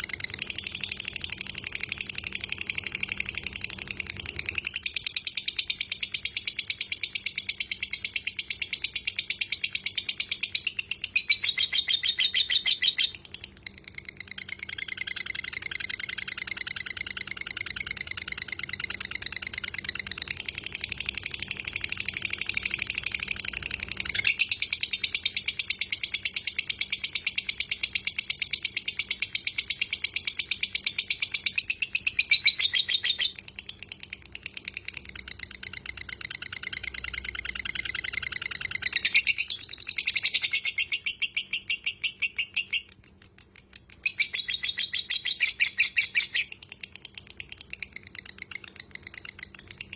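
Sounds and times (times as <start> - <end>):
lovebird chattering trill: 0.0 - 49.9.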